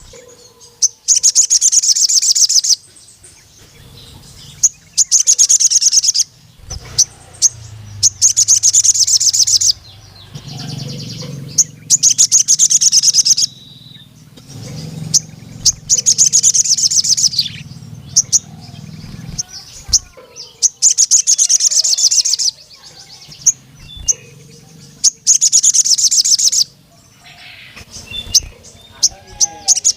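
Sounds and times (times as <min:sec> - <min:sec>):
bird singing fast trills: 0:00.0 - 0:29.9
high bird chirps: 0:00.0 - 0:29.9.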